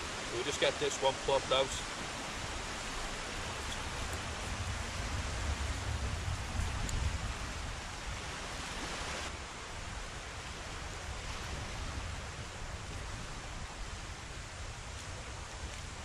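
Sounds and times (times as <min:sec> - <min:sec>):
distant surf: 0:00.0 - 0:16.0
wind: 0:00.0 - 0:16.0
wind buffeting microphone: 0:00.0 - 0:16.0.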